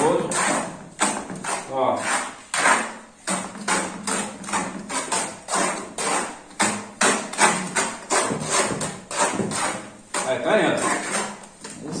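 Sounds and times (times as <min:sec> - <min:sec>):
trowel scraping wet mortar: 0:00.0 - 0:12.0.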